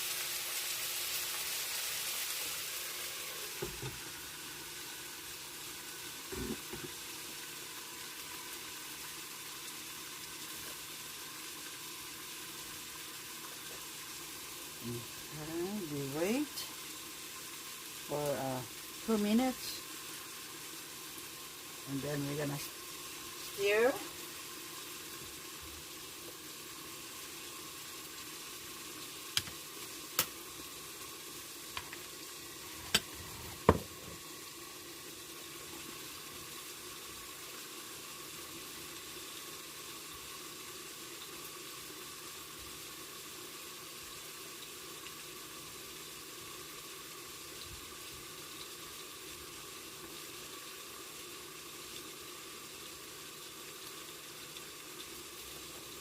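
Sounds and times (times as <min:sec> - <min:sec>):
meat sizzling under lid: 0:00.0 - 0:56.0.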